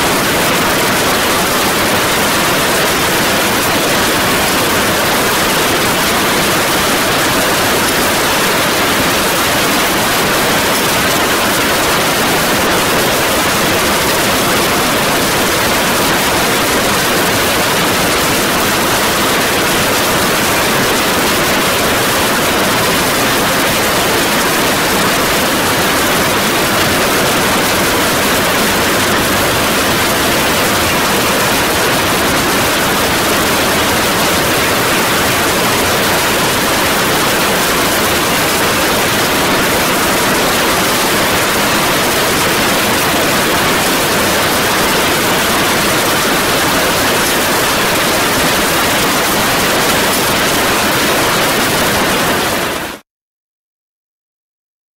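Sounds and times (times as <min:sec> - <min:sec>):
heavy rain and hail: 0:00.0 - 0:53.0.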